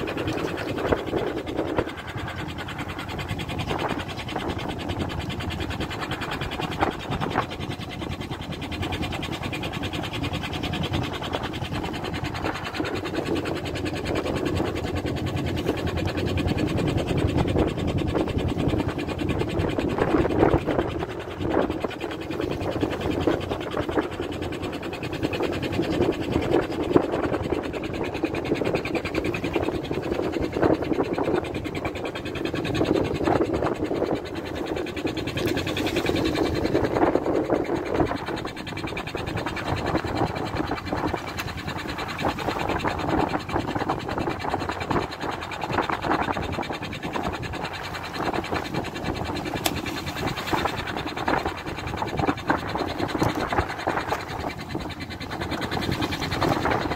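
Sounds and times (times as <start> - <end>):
boat motor droning: 0.0 - 56.9
water splashing against hull: 0.0 - 56.9.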